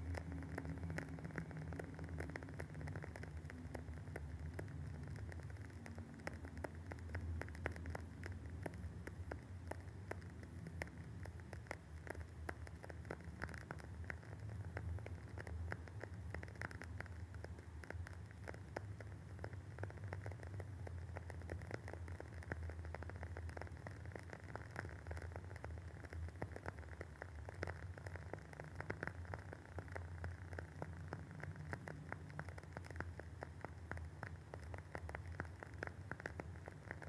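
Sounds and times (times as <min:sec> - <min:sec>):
candle wick crackling: 0:00.0 - 0:37.0
low steady hum: 0:00.0 - 0:37.0.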